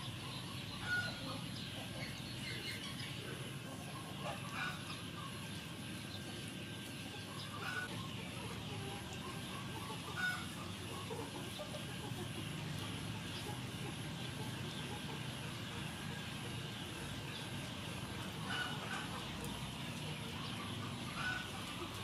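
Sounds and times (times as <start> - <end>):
chickens clucking: 0.0 - 22.0
outdoor background noise: 0.0 - 22.0.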